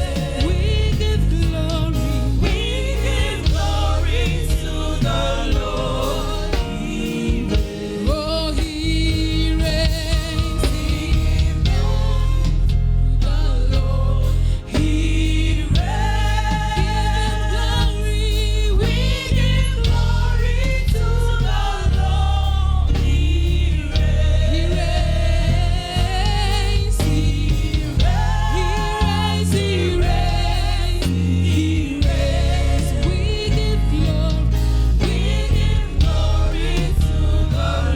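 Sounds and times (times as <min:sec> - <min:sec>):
gospel choir singing: 0:00.0 - 0:37.9
heavy bass accompaniment: 0:00.0 - 0:37.9.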